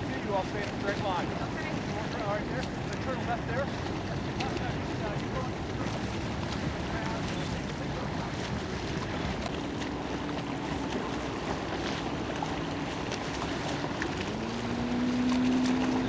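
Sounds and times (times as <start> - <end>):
boat engine: 0.0 - 16.0
wind and water rushing: 0.0 - 16.0.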